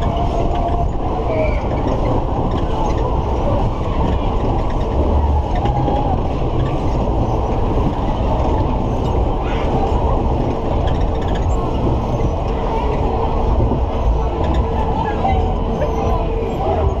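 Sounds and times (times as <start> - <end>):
ride car rattling on track: 0.0 - 17.0
wind rushing over microphone: 0.0 - 17.0.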